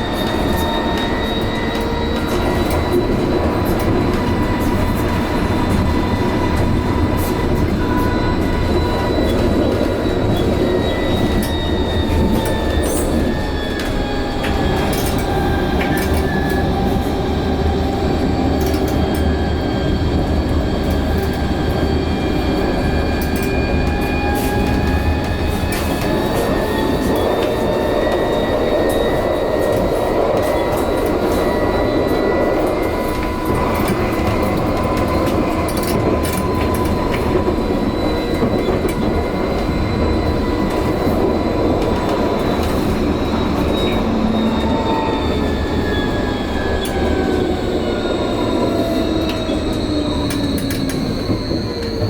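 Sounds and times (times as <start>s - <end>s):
tram wheels rolling on rail: 0.0s - 52.0s.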